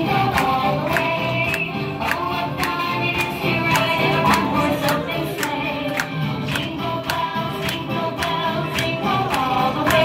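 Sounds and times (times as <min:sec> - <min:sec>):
group singing: 0:00.0 - 0:10.0.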